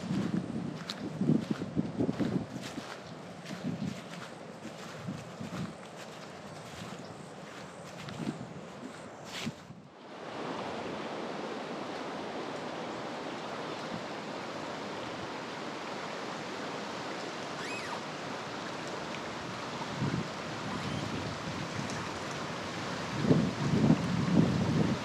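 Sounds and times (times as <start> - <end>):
creek water over rapids: 0.0 - 25.0.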